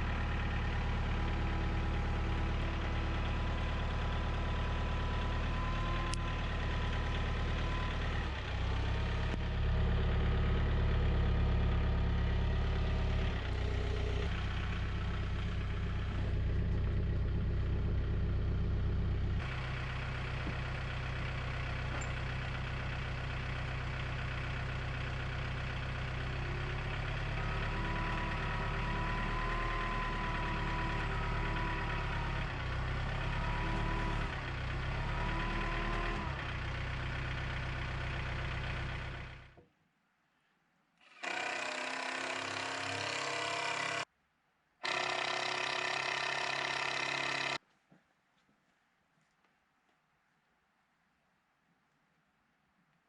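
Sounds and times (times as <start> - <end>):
engine running: 0.0 - 39.6, 41.2 - 44.1, 44.8 - 47.6.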